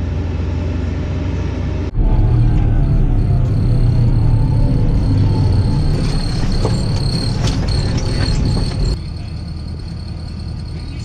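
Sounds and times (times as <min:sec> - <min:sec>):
tractor engine rumble in cab: 0:00.0 - 0:11.0.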